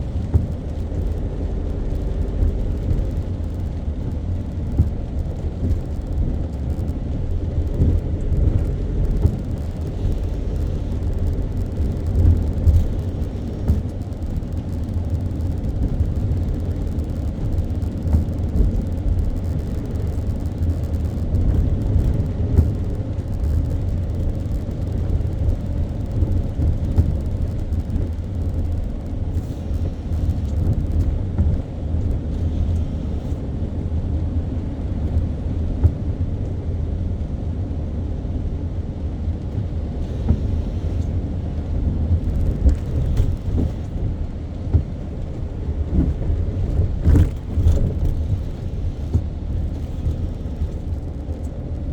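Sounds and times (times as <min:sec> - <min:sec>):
faint crackles: 0:00.0 - 0:33.8, 0:40.0 - 0:51.8
car engine and tyre rumble: 0:00.0 - 0:51.9.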